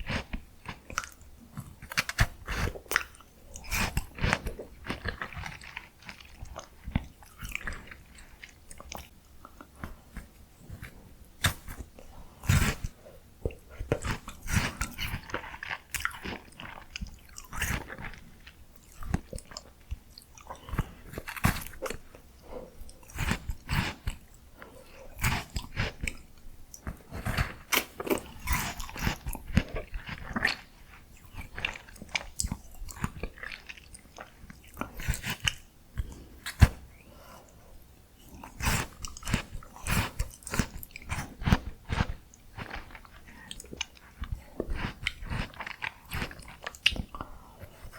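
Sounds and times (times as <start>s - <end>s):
biting and chewing ice cream: 0.0s - 47.9s.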